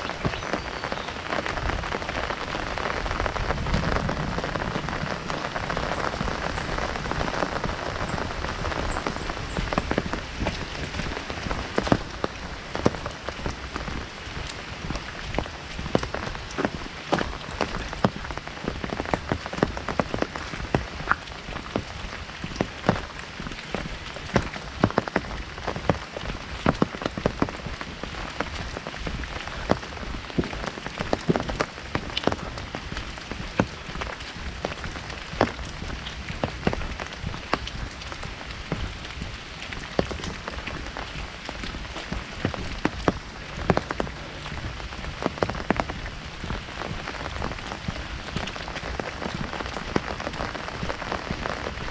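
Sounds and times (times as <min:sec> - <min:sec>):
heavy rain on an umbrella: 0:00.0 - 0:51.9.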